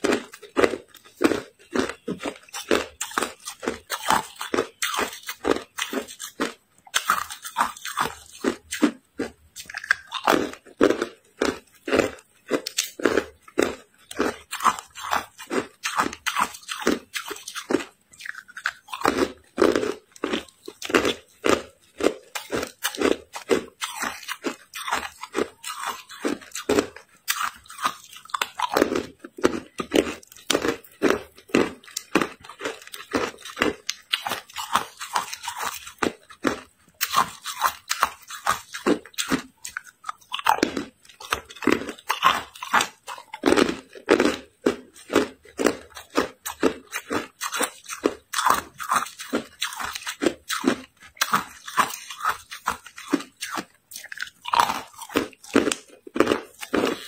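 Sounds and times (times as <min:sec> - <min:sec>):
ice cubes crunched by teeth: 0:00.0 - 0:57.0.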